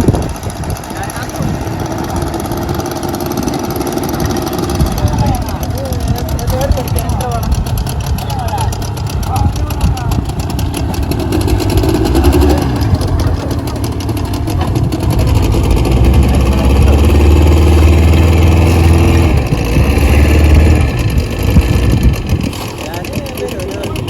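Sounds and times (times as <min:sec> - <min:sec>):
boat engine low hum: 0:00.0 - 0:24.0.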